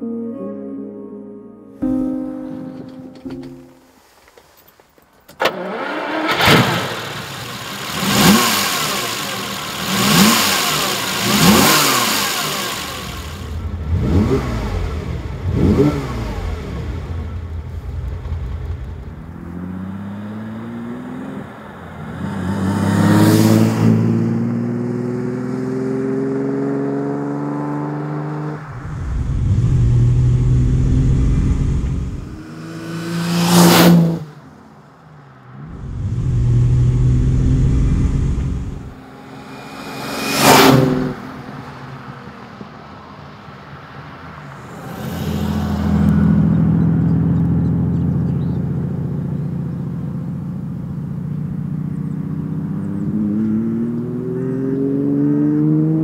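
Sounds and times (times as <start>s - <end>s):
car engine starting and revving: 5.3s - 34.8s, 35.5s - 42.6s, 44.5s - 56.0s
car accelerating through gears: 5.4s - 34.5s, 35.6s - 42.0s, 44.5s - 56.0s.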